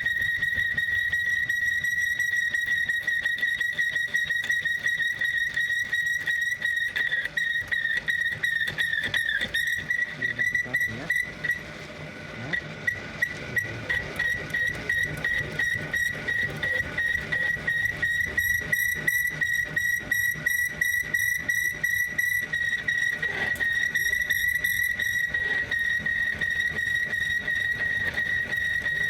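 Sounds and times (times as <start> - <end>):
machine high-pitched whine: 0.0 - 29.0.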